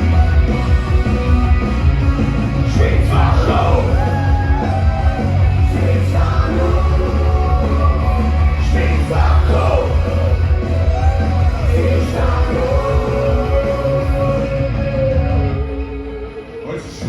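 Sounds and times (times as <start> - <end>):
heavy bass beat: 0.0 - 15.4
loud live rock music: 0.0 - 17.0.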